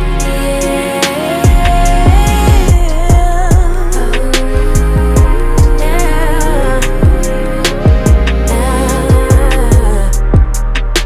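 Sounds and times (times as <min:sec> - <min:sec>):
r and b song: 0:00.0 - 0:11.0.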